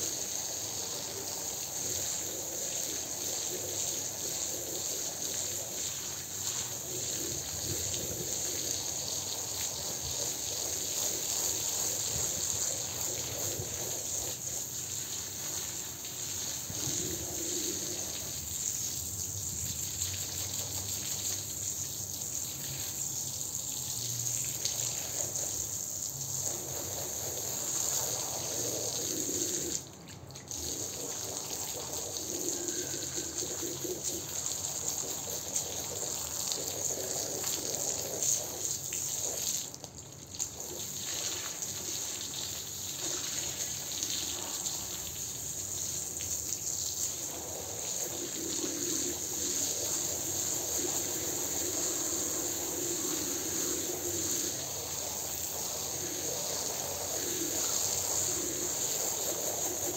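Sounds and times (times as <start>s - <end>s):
water jet spraying on rug: 0.0s - 59.9s.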